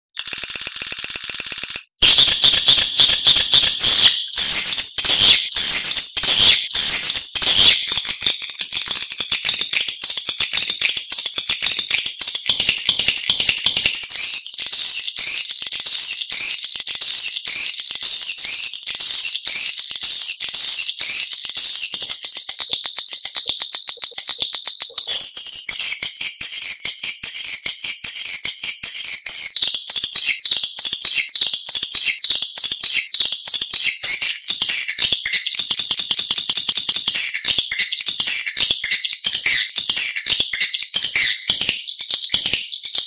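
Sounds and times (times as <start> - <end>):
high-pitched bird twittering chirps: 1.4 - 43.0.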